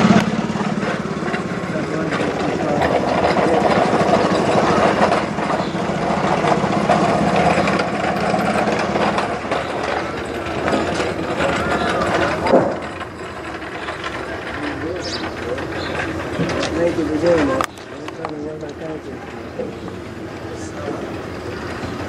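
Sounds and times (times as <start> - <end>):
truck engine idling: 0.0 - 22.0
voices: 0.0 - 22.0.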